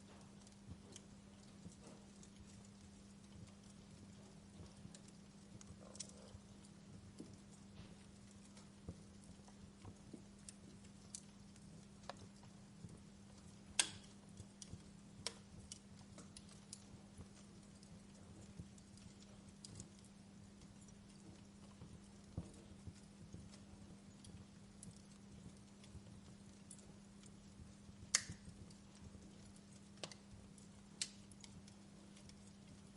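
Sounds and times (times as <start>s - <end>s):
faint steady hum: 0.0s - 32.9s
wood fire crackling: 0.0s - 32.9s.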